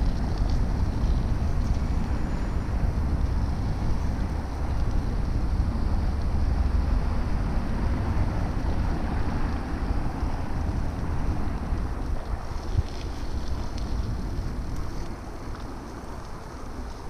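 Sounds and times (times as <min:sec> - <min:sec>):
street and tyre noise: 0:00.0 - 0:17.0
wind buffeting microphone: 0:00.0 - 0:17.0.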